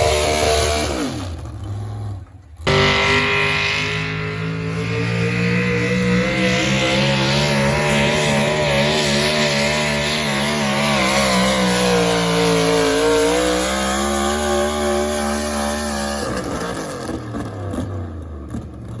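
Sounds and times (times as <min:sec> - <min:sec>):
diesel truck engine under load: 0:00.0 - 0:19.0.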